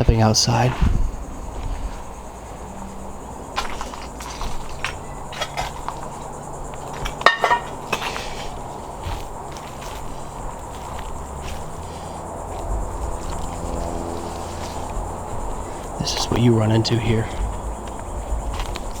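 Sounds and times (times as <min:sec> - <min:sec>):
insects buzzing: 0:00.0 - 0:19.0
footsteps crunching through brush: 0:01.5 - 0:19.0.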